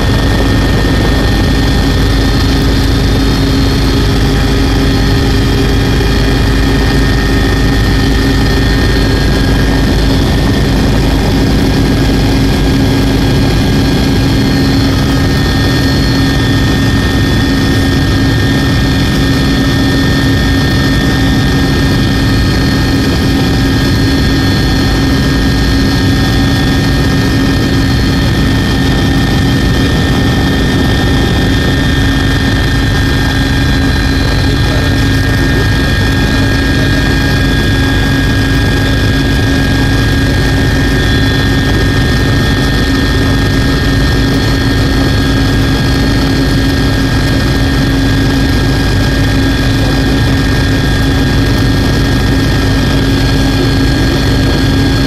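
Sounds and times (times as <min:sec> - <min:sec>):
helicopter engine and rotor drone: 0:00.0 - 0:55.0
high whines: 0:00.0 - 0:55.0.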